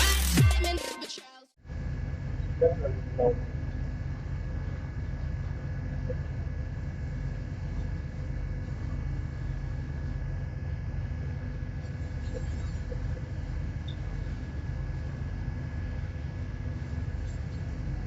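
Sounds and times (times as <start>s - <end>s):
faint steady whine: 1.6s - 18.0s
ship engine droning: 1.6s - 18.0s.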